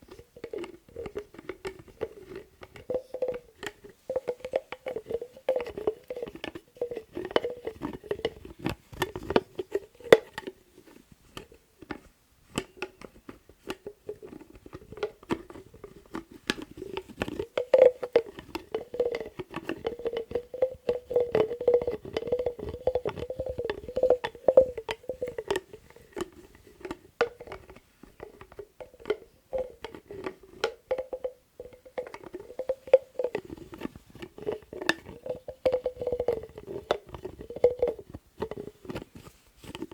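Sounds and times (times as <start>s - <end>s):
lids tapping and clicking: 0.0s - 39.9s.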